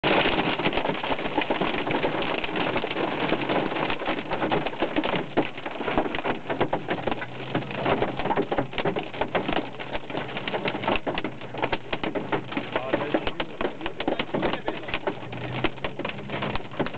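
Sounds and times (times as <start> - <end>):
hailstones hitting car roof: 0.0 - 16.9.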